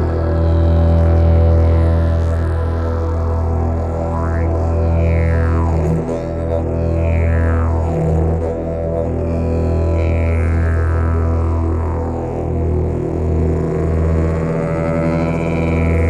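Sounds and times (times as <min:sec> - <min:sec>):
didgeridoo drone: 0:00.0 - 0:16.0.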